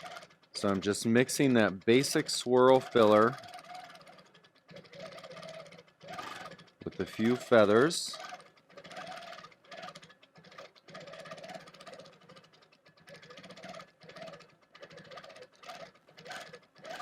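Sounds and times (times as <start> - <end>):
quilting machine stitching: 0.0 - 17.0.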